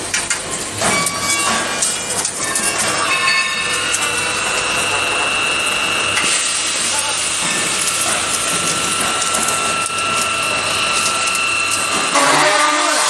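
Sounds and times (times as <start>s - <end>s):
forming machine mechanical noise: 0.0s - 13.0s.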